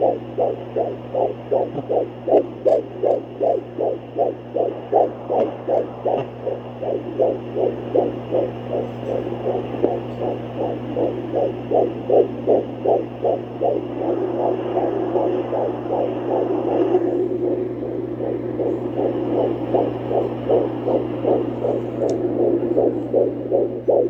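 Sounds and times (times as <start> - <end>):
device low hum: 0.0 - 24.0
fetal heartbeat whooshing: 0.0 - 24.0.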